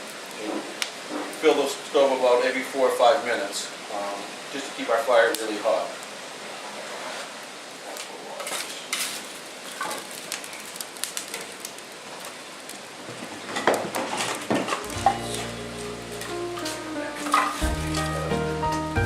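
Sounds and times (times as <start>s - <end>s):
sap evaporator boiling with hiss: 0.0s - 19.0s.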